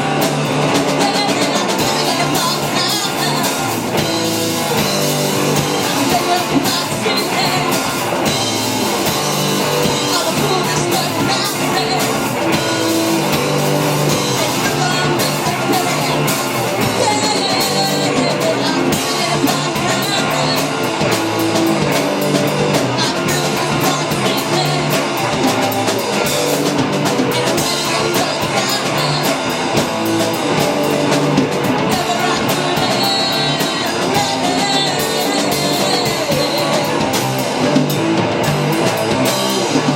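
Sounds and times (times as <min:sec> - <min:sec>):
person singing: 0:00.0 - 0:38.0
drum kit: 0:00.0 - 0:39.9
electric guitar: 0:00.0 - 0:39.9.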